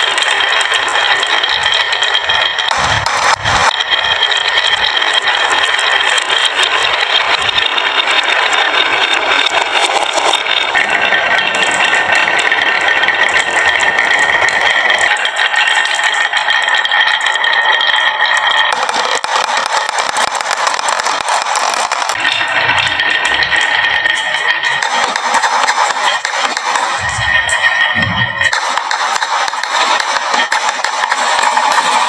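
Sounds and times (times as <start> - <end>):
marbles clattering: 0.0 - 32.0
rolling whir: 0.0 - 32.0.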